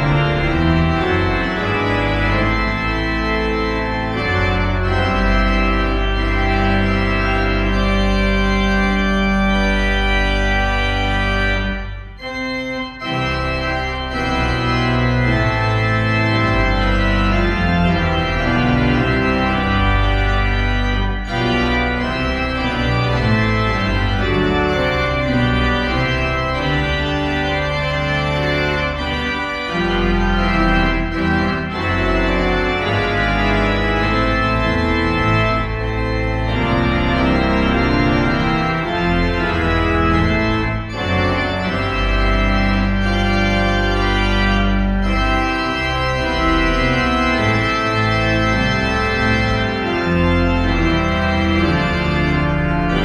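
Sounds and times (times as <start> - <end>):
organ playing sustained chords: 0.0 - 53.0.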